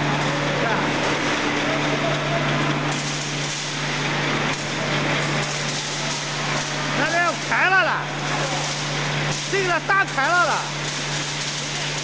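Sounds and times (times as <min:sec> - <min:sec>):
constant motor hum: 0:00.0 - 0:12.0.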